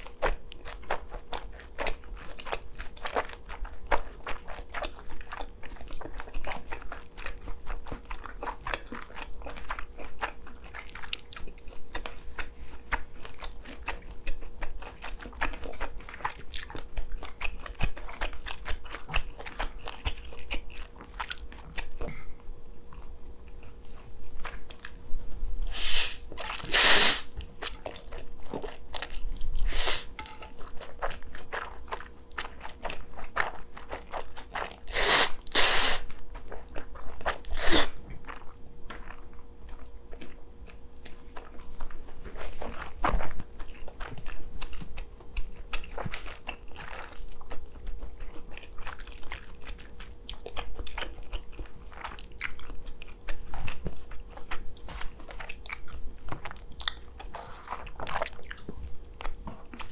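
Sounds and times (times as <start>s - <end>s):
person chewing close to microphone: 0.0s - 59.9s.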